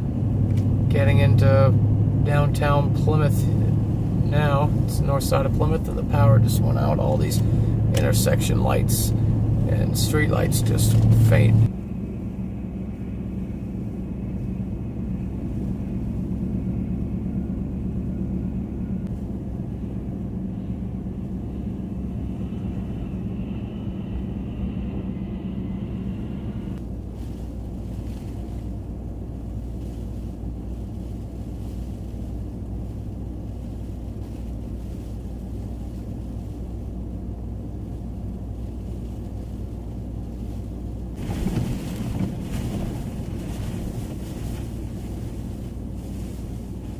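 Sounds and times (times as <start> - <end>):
vehicle driving through snow: 0.0 - 46.9.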